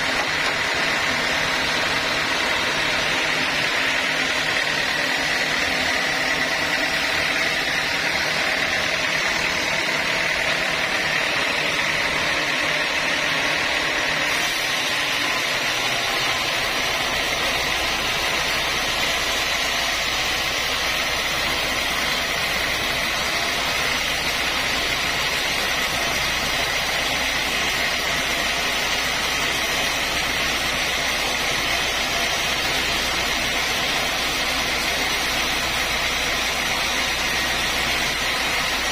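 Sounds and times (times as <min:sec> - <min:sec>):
sawmill saw whining: 0:00.0 - 0:38.9.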